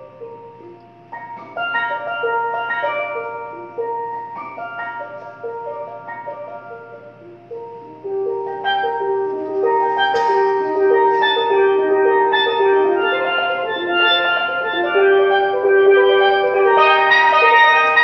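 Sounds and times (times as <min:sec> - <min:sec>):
steelpan melody: 0:00.0 - 0:18.0.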